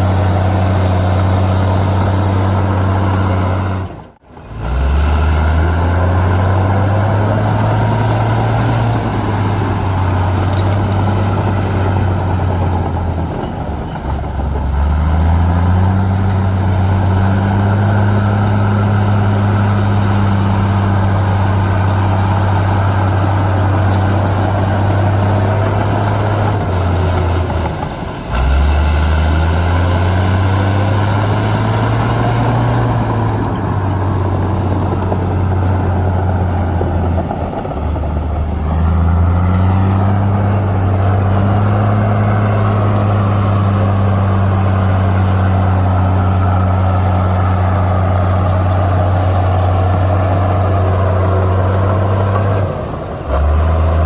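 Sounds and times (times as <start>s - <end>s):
heavy diesel engine working: 0.0s - 54.0s.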